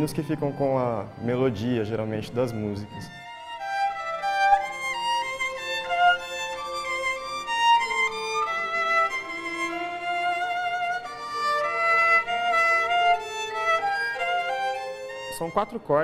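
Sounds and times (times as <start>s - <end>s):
two violins playing melody: 0.0s - 16.0s.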